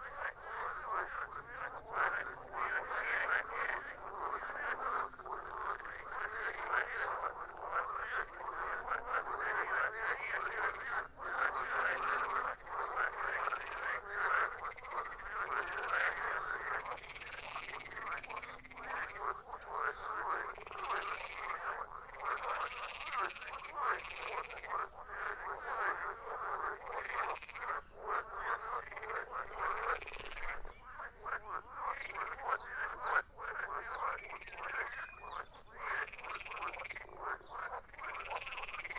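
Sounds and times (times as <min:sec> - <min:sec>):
frogs croaking in chorus: 0:00.0 - 0:38.9.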